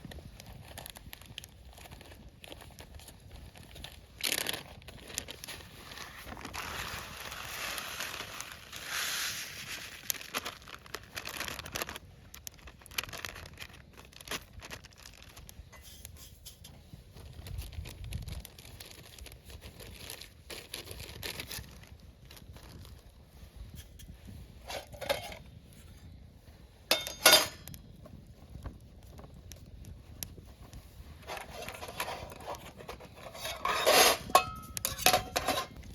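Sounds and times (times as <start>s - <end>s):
crinkling and rustling: 0.0s - 35.9s.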